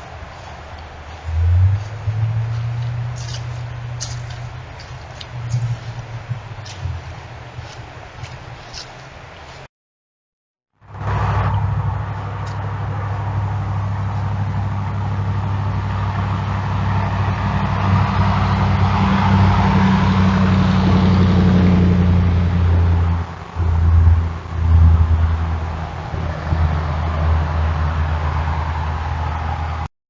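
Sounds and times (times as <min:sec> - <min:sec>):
engine running: 0:00.0 - 0:09.4, 0:10.8 - 0:29.9.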